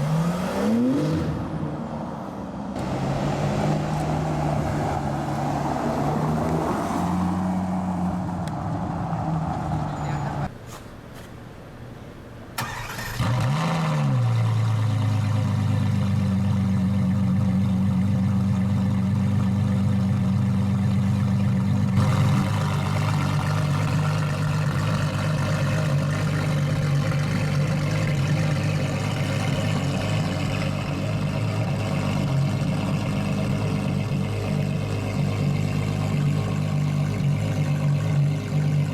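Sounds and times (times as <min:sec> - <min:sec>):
car engine revving and idling: 0:00.0 - 0:10.5, 0:12.6 - 0:38.9.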